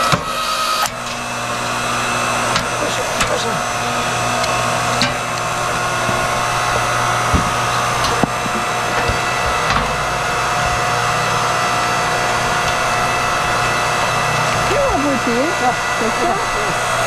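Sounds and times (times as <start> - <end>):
hydraulic log splitter running: 0.0 - 17.0
wood cracking: 0.9 - 14.7.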